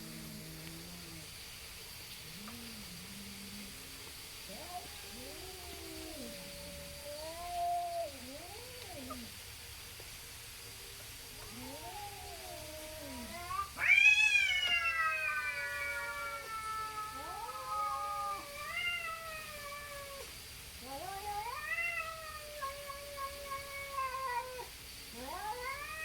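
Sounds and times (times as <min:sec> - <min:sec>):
cats caterwauling: 0:00.0 - 0:01.4, 0:02.2 - 0:09.4, 0:11.4 - 0:26.0.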